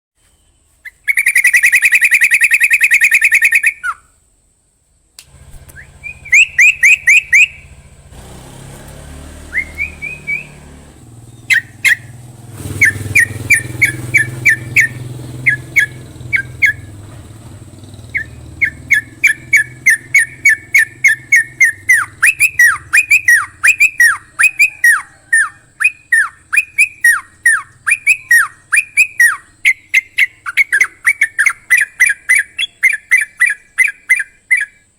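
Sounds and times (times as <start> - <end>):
songbird chirping and trilling: 0.7 - 4.3, 5.2 - 34.9.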